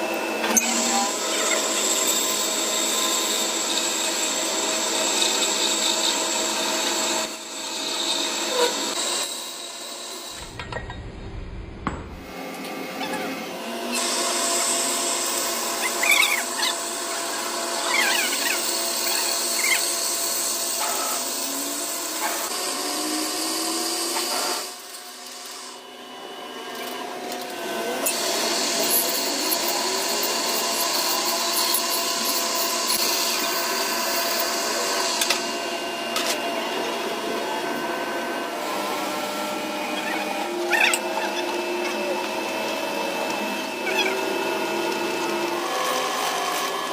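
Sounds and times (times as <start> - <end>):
power tool running: 0.0 - 46.9.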